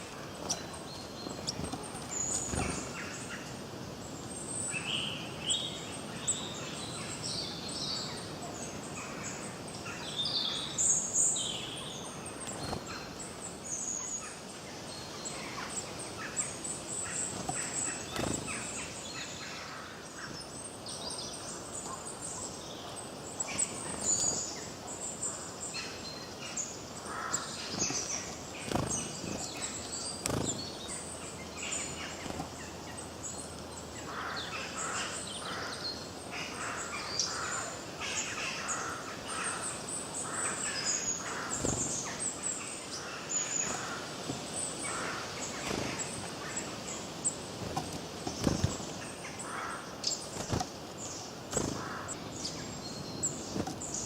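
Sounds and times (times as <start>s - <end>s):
forest birds singing and chirping: 0.0s - 54.0s.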